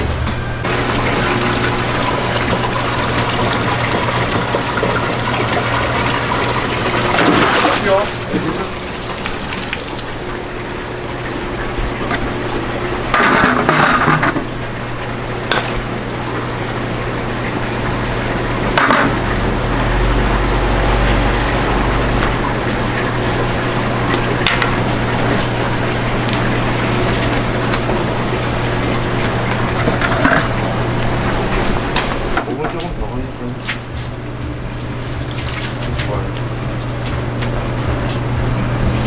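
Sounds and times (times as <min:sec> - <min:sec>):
low pump hum: 0:00.0 - 0:39.0
water splashing and bubbling: 0:00.6 - 0:39.0
water running off a net: 0:00.7 - 0:32.9, 0:33.7 - 0:38.8.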